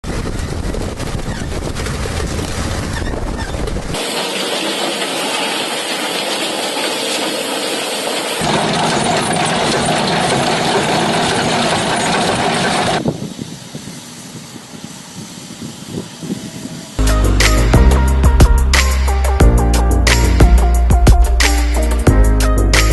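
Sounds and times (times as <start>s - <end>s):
heavy farm machinery running: 0.0s - 22.0s.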